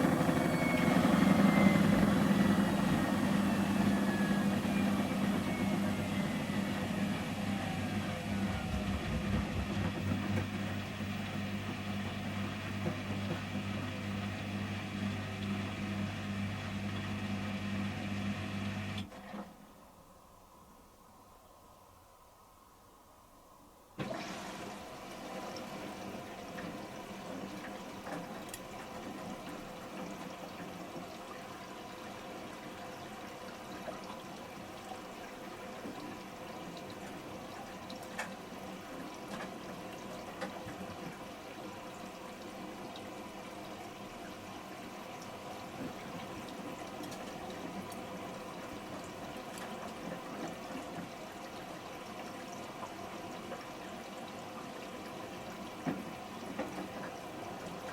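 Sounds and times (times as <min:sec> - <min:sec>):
washing machine filling with water: 0:00.0 - 0:19.9, 0:24.0 - 0:57.9.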